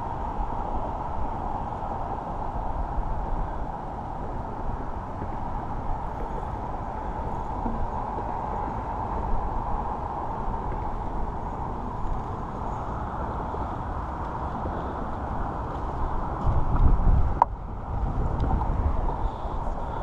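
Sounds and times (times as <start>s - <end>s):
muffled outdoor background noise: 0.0s - 20.0s.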